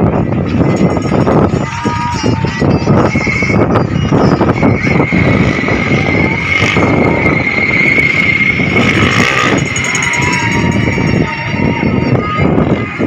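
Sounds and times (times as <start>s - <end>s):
steady high whine: 0.0s - 13.0s
dirt bike engines running: 0.6s - 12.3s.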